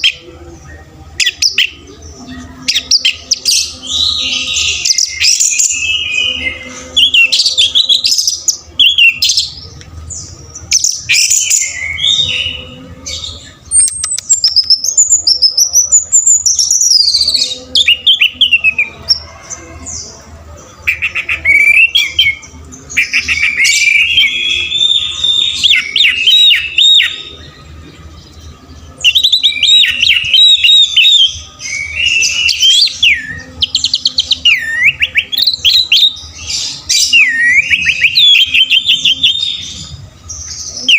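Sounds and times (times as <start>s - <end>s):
thrush singing whistled song: 0.0s - 20.1s, 20.8s - 27.6s, 28.2s - 40.9s.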